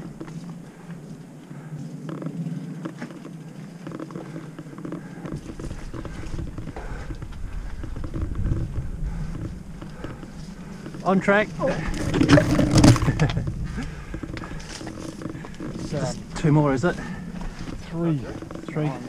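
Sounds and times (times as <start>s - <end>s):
bike rattling: 0.0s - 19.0s
bike tyres rolling over dirt: 0.0s - 19.0s
deep rumble: 0.0s - 19.0s.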